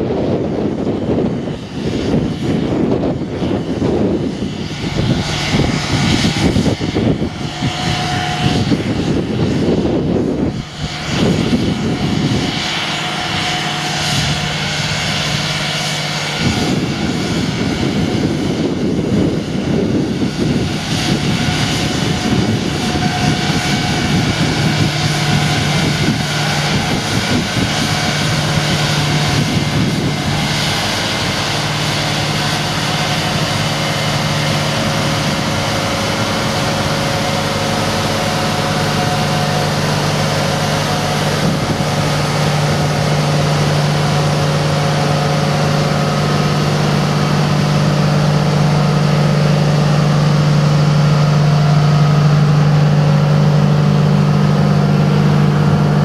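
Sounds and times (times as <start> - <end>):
diesel train engine running: 0.0 - 56.0.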